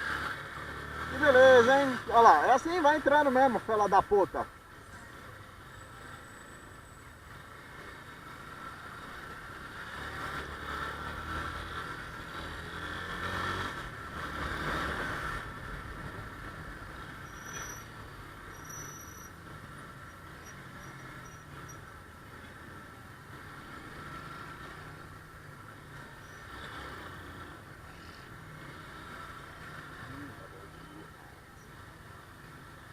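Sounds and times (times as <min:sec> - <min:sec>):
road and wind noise: 0:00.0 - 0:32.9.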